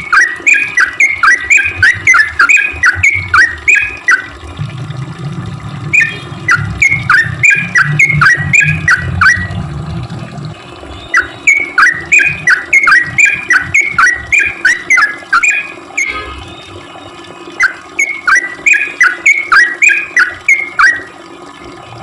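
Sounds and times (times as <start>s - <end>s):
bulbul singing chattering song: 0.0s - 4.4s, 5.8s - 9.6s, 10.6s - 21.7s.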